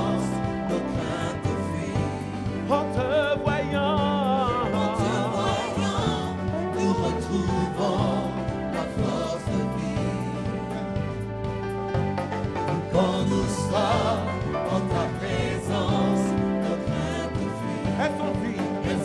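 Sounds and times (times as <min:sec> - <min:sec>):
voices singing with vibrato: 0:00.0 - 0:11.6, 0:12.5 - 0:19.0
bass guitar: 0:00.0 - 0:19.0.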